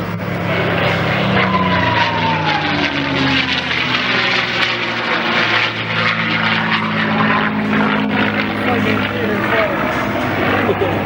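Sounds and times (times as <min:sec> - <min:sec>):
propeller plane engine passing: 0:00.0 - 0:11.0.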